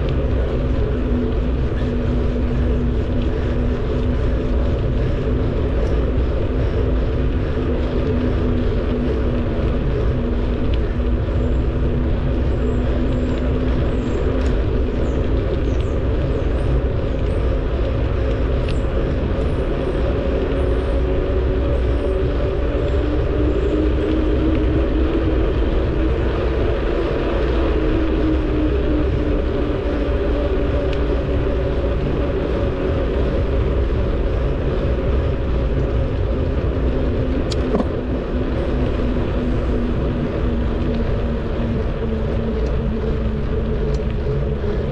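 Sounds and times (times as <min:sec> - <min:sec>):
steady hum: 0:00.0 - 0:44.9
wind rushing over microphone: 0:00.0 - 0:44.9.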